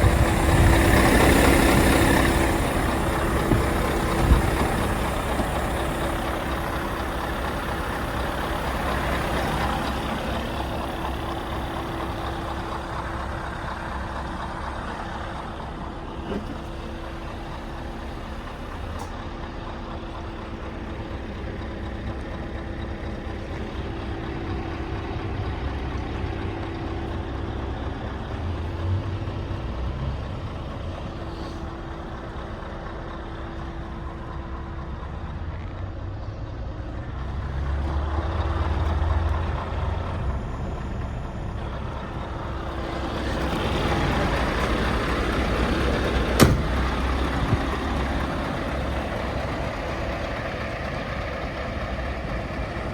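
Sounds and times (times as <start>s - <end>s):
truck diesel engine running: 0.0s - 52.9s.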